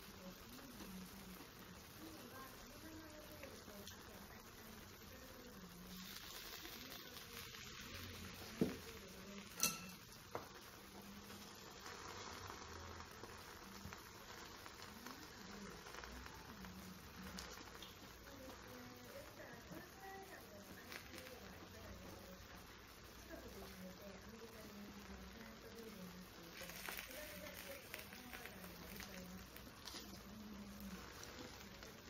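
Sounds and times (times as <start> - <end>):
food sizzling faintly: 0.0 - 32.0.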